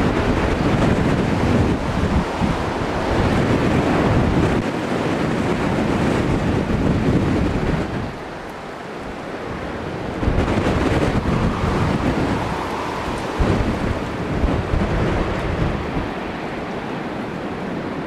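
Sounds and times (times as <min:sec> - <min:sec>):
jet roaring in to land: 0:00.0 - 0:18.0
wind buffeting microphone: 0:00.0 - 0:18.0.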